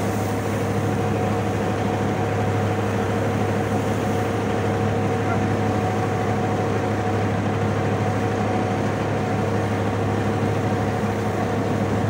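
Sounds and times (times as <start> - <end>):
feed mixer machine droning: 0.0 - 12.0.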